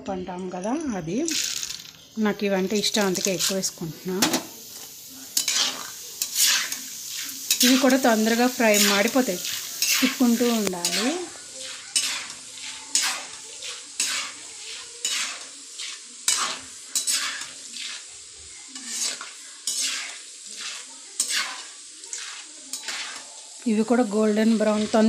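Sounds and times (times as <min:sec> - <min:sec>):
food sizzling in oil: 0:00.3 - 0:25.0
metal spoon scraping pan: 0:02.7 - 0:23.4.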